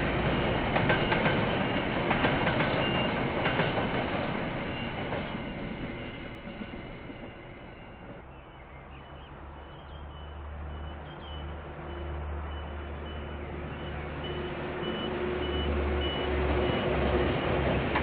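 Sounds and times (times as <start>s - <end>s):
diesel train engine rumble: 0.0s - 18.0s.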